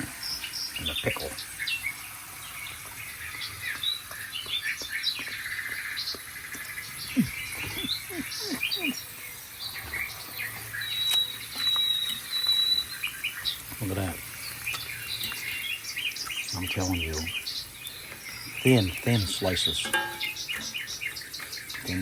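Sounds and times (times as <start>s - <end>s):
birds chirping and trilling: 0.0s - 22.0s
low falling bird notes: 0.0s - 22.0s.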